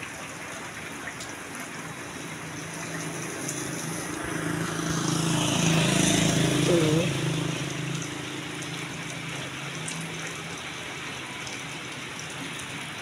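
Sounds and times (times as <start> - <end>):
steady rain falling: 0.0 - 13.0
vehicle engine hum: 1.8 - 13.0.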